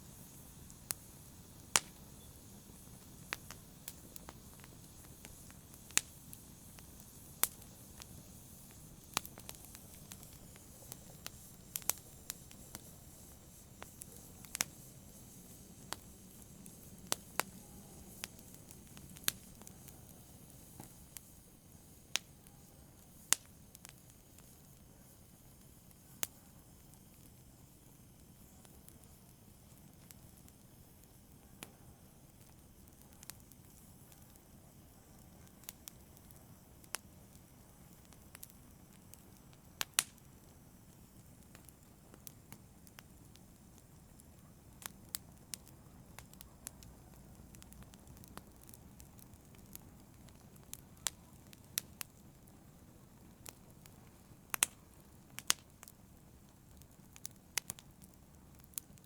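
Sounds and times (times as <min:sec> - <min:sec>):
wood fire popping and snapping: 0:00.0 - 0:27.4, 0:28.1 - 0:59.0
faint hiss of burning: 0:00.0 - 0:59.0.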